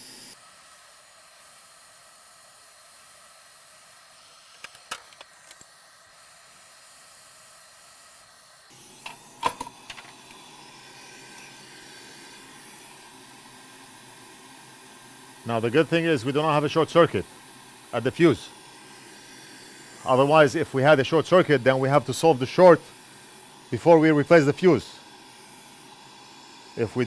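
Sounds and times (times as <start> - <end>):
hot air station hissing: 0.0 - 27.0.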